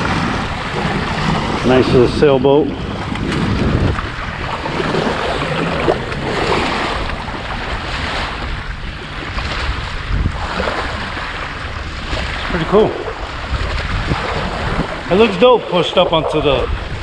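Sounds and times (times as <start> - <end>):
small waves lapping on shore: 0.0 - 17.0
wind buffeting microphone: 0.0 - 17.0.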